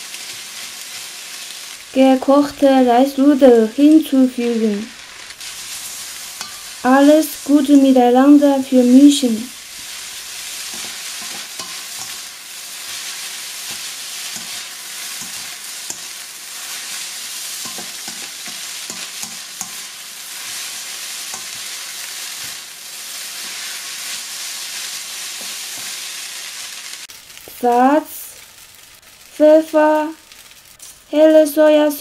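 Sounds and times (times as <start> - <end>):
food sizzling in a wok: 0.0 - 32.0.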